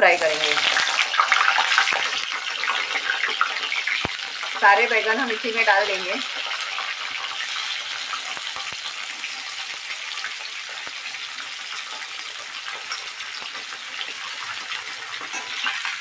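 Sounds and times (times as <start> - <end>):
eggplant sizzling in hot oil: 0.0 - 16.0
oil crackling: 0.0 - 16.0.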